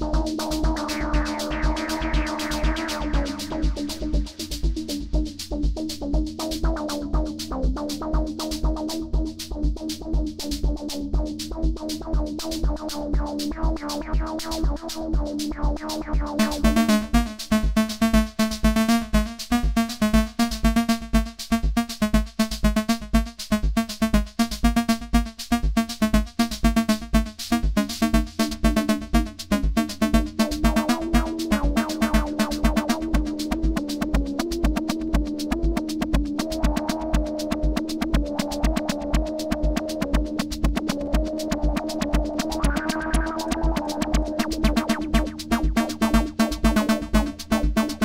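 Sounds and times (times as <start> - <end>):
synth bass line: 0.0 - 5.3, 12.7 - 48.0
kick drum pulse: 0.0 - 48.0.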